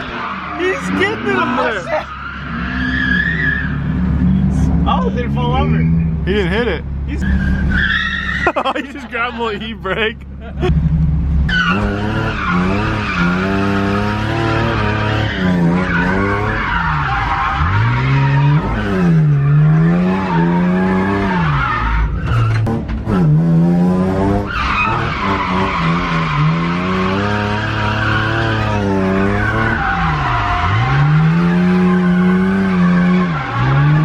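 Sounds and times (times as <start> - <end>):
tires squealing: 0.0 - 10.1, 10.7 - 34.0
car engines revving: 0.0 - 34.0.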